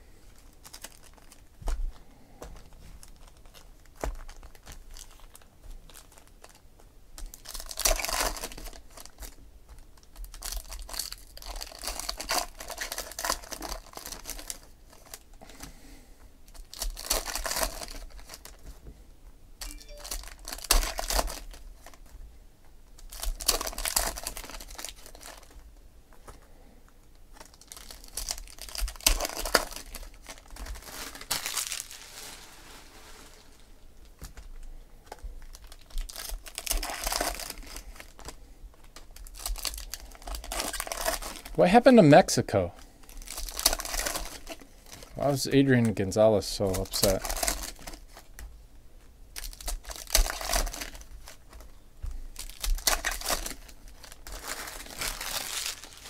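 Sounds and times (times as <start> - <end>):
foil wrappers crinkling: 0.4 - 6.6, 7.2 - 15.6, 16.5 - 18.8, 19.6 - 22.2, 23.0 - 26.4, 27.3 - 48.5, 49.3 - 56.0.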